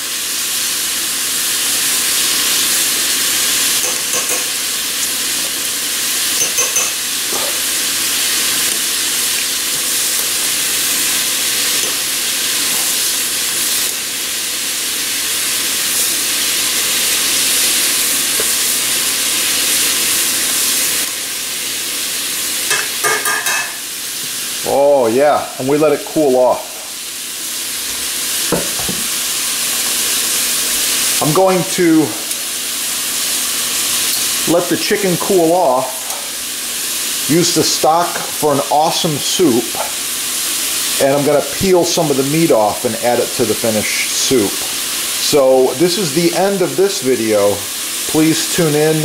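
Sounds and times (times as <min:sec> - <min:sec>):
pot boiling and bubbling: 0:00.0 - 0:49.0.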